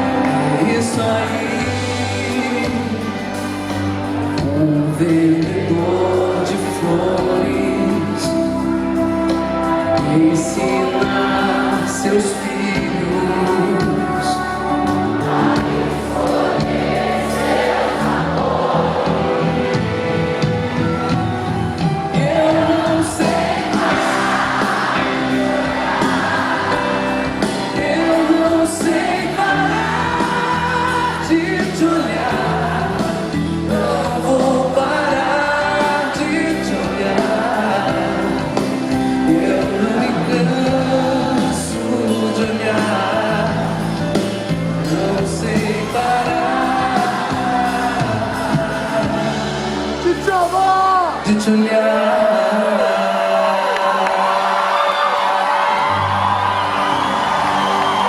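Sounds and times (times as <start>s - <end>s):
person singing: 0.0s - 16.7s, 17.3s - 58.0s
live band playing a slow ballad: 0.0s - 53.7s, 54.4s - 58.0s.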